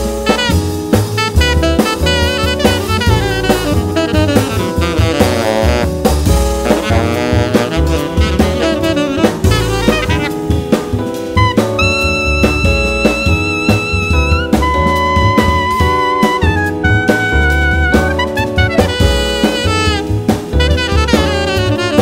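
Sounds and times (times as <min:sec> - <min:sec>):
double bass: 0:00.0 - 0:22.0
drum kit: 0:00.0 - 0:22.0
electric piano: 0:00.0 - 0:22.0
tenor saxophone runs: 0:00.2 - 0:10.6, 0:11.4 - 0:22.0.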